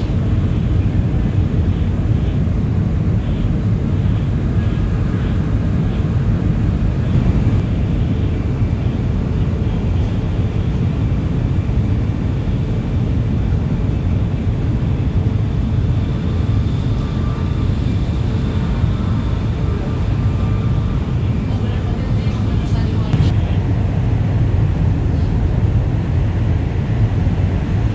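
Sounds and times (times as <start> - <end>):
train low rumble from inside: 0.0 - 27.9.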